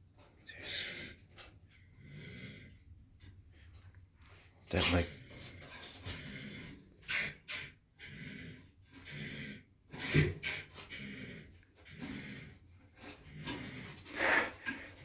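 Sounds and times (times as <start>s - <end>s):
animal snore-like breathing: 0.5s - 15.0s.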